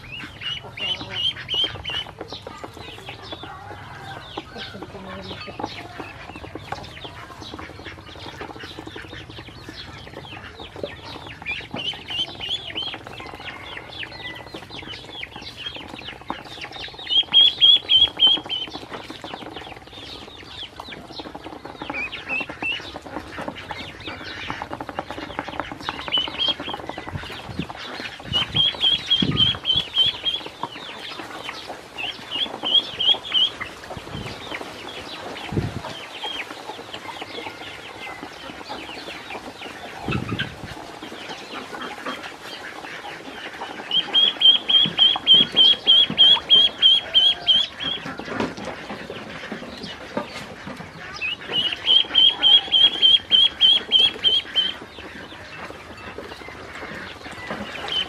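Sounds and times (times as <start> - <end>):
bills and feet tapping plastic: 0.0 - 58.0
ducklings peeping: 0.0 - 58.0.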